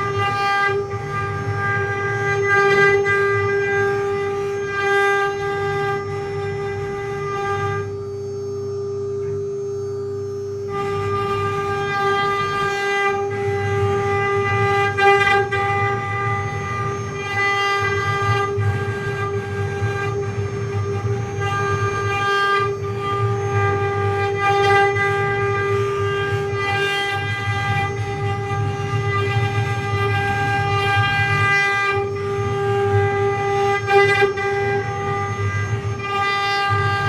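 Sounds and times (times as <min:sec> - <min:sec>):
low cutting rumble: 0:00.0 - 0:37.0
router spindle whine: 0:00.0 - 0:37.0.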